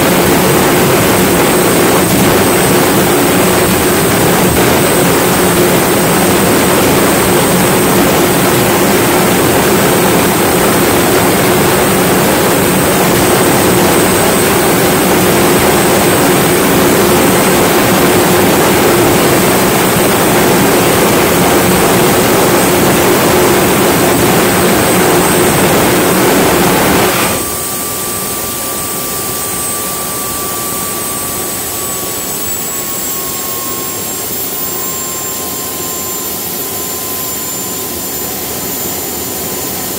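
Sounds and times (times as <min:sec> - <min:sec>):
jet engine roaring: 0:00.0 - 0:39.9
turbine whine: 0:00.0 - 0:39.9.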